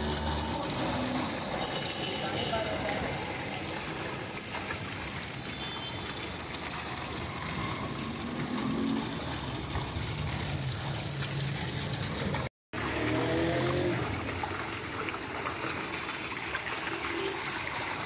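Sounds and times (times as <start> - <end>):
water pouring into metal drum: 0.0 - 18.0
water splashing: 0.0 - 18.0.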